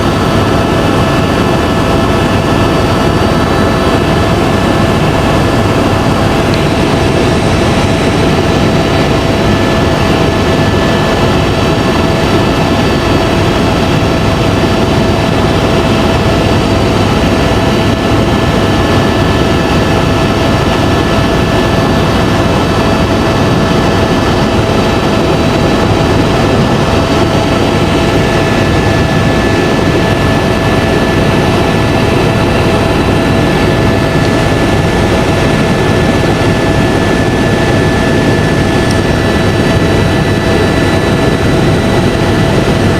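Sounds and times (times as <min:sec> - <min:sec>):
helicopter rotor and engine rumble: 0:00.0 - 0:42.9
high turbine whine: 0:00.0 - 0:42.9.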